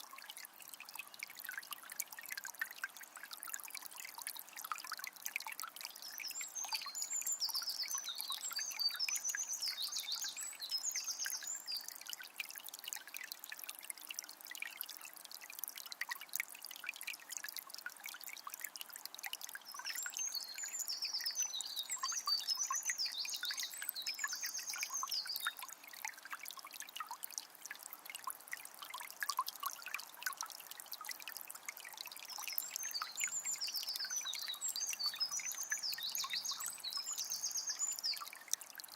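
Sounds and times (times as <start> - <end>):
spring water trickling: 0.0 - 38.9.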